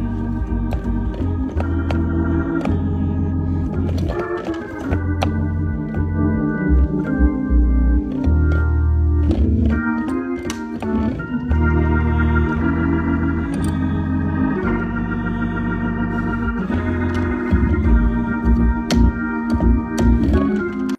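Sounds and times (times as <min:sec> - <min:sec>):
bass line: 0:00.0 - 0:20.8
organ playing held chords: 0:00.0 - 0:20.9.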